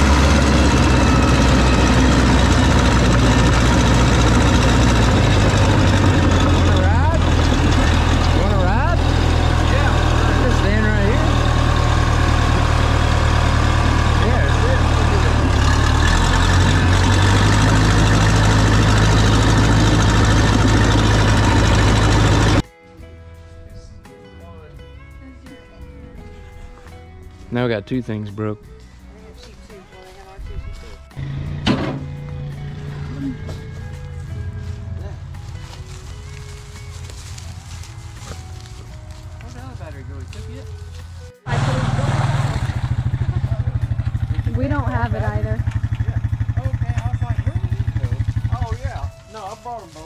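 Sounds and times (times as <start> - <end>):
dozer engine running: 0.0 - 22.6, 28.0 - 50.0.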